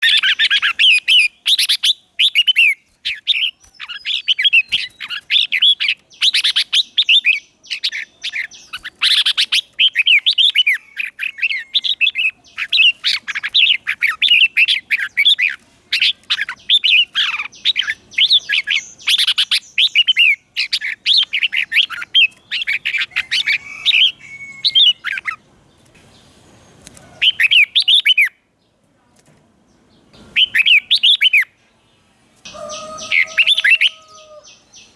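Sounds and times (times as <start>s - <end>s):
bulbul singing: 0.0s - 28.4s, 30.1s - 31.6s.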